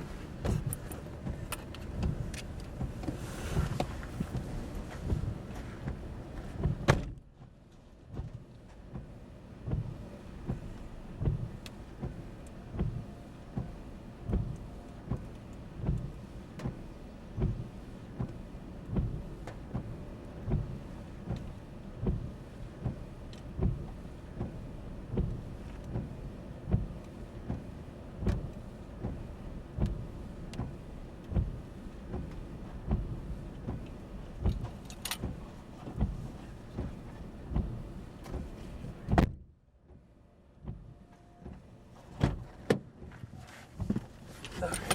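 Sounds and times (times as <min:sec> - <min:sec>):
vehicle interior rumble: 0:00.0 - 0:44.9.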